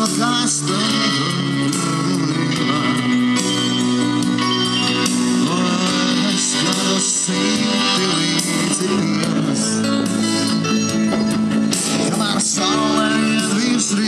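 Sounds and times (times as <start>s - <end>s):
guitar: 0.0s - 14.0s
live band music over loudspeakers: 0.0s - 14.0s.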